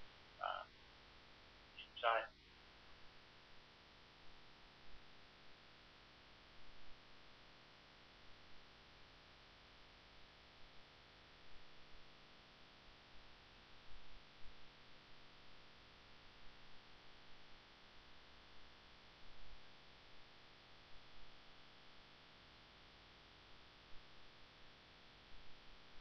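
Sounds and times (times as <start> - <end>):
faint broadcast hiss and hum: 0.0 - 26.0.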